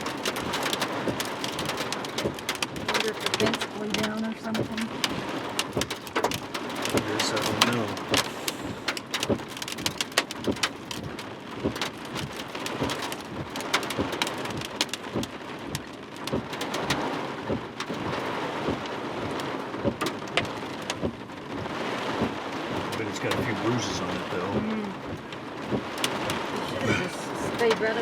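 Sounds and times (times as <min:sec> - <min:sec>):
rain on a truck roof: 0:00.0 - 0:28.0.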